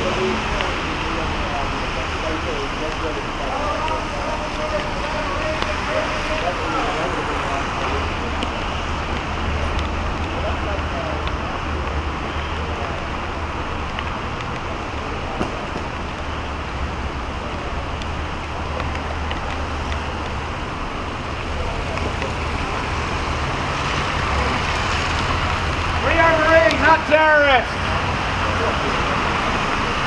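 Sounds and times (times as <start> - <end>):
car engines rumbling: 0.0 - 30.0
tyres hissing on wet road: 0.0 - 30.0.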